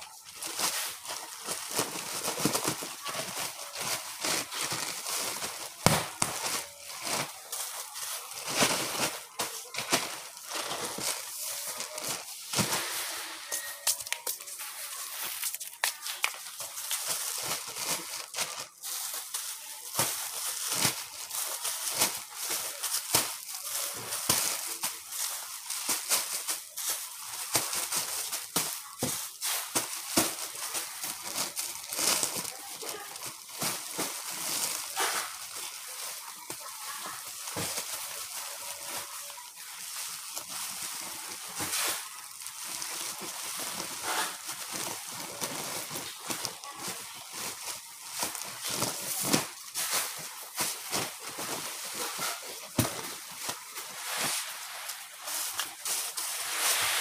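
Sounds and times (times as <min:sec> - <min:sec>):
plastic bags crinkling: 0:00.0 - 0:57.0.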